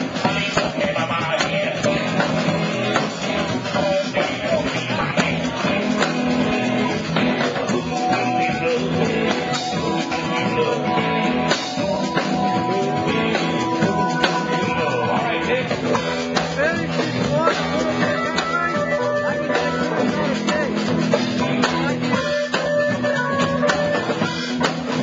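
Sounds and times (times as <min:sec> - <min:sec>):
blues-rock band playing live: 0:00.0 - 0:25.0
drum kit: 0:00.0 - 0:25.0
electric guitar: 0:00.0 - 0:25.0.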